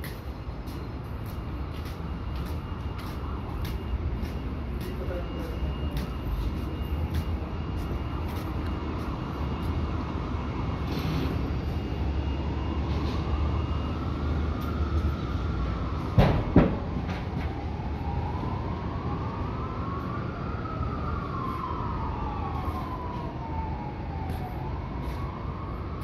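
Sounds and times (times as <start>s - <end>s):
wailing siren: 0.0s - 26.0s.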